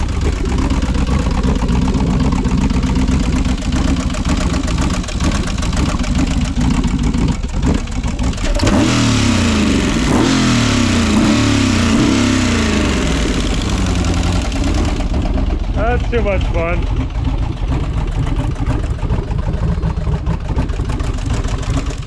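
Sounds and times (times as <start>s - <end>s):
engine running and revving: 0.0s - 22.0s.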